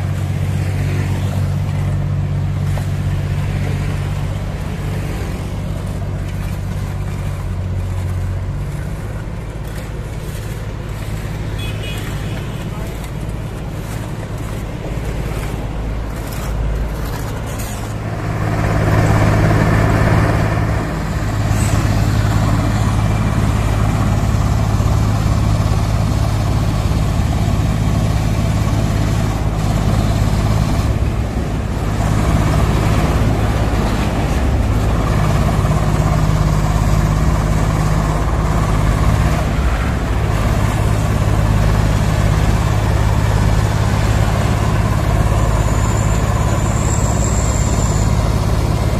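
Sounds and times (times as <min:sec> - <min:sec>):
cutter drum grinding asphalt: 0:00.0 - 0:48.9
heavy diesel engine hum: 0:00.0 - 0:48.9.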